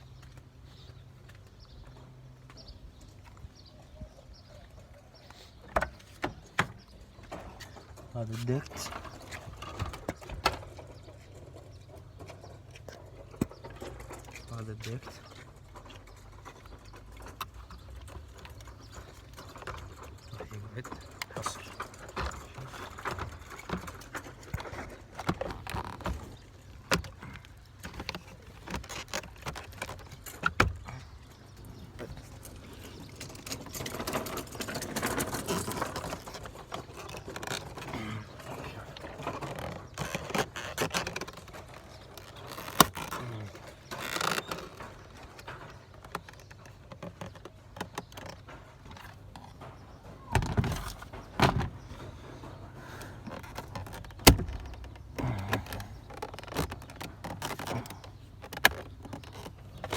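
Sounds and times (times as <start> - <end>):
handling clicks and knocks: 0.0 - 59.9
rustling and scraping: 0.0 - 59.9.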